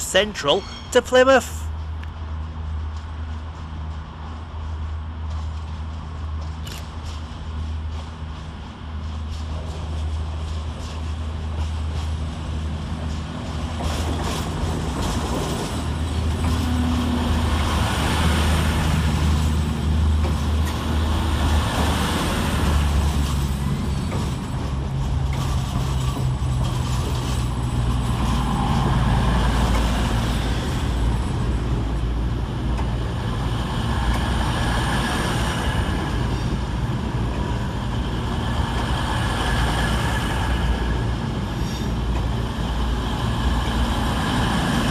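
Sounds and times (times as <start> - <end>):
train diesel engines droning: 0.0 - 44.9.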